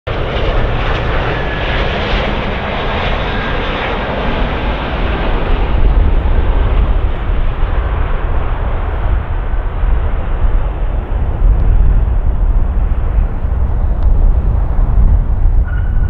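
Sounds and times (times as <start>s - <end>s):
jet engines running: 0.1s - 16.0s.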